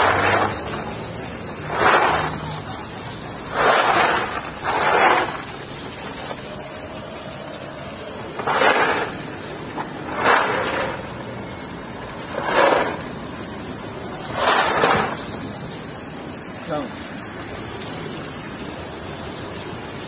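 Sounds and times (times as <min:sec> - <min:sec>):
hose spray on walnuts: 0:00.0 - 0:20.0.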